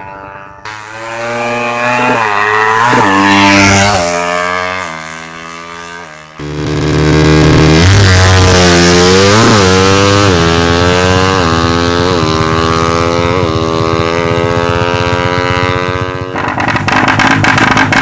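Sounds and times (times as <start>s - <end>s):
motorcycle accelerating away: 0.0s - 18.0s.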